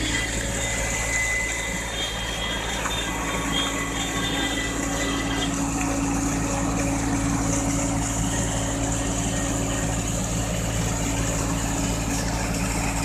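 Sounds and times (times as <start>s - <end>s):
pump hiss: 0.0s - 13.0s
tractor engine running: 0.0s - 13.0s.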